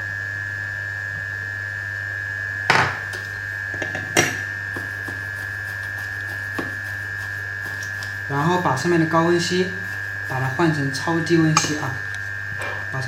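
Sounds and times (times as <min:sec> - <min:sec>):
electrical hum with high whine: 0:00.0 - 0:13.0.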